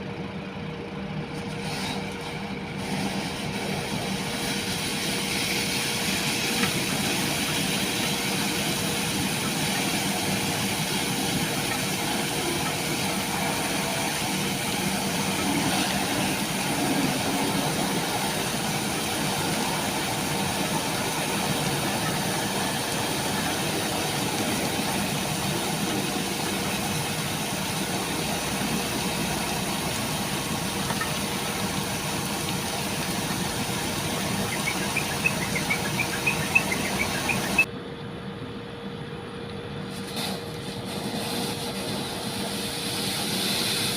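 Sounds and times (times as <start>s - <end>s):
truck engine running: 0.0s - 40.0s
steady hum: 0.0s - 40.7s.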